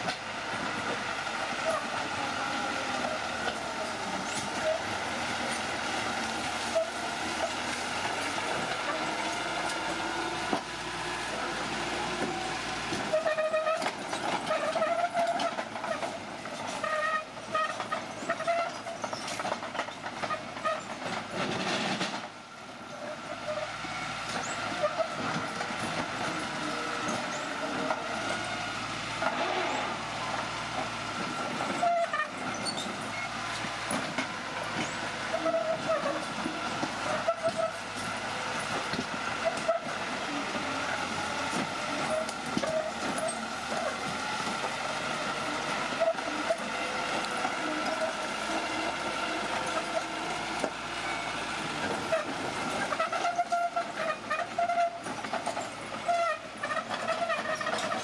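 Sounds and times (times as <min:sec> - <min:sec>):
diesel engine running: 0:00.0 - 0:58.0
metallic track squeals: 0:00.0 - 0:58.0
steel tracks clattering: 0:00.0 - 0:58.0.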